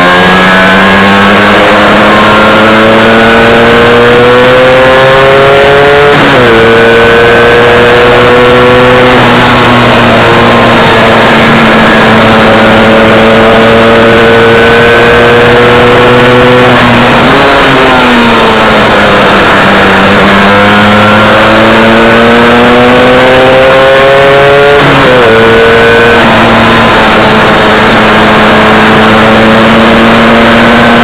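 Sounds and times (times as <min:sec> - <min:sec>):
two-stroke motorcycle engine: 0:00.0 - 0:31.0.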